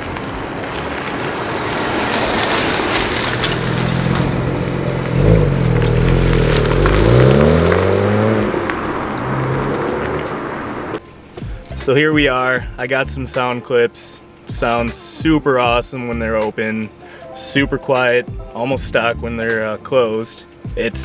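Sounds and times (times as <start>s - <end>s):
car exhaust note: 0.0s - 21.0s
road and wind noise: 0.0s - 21.0s.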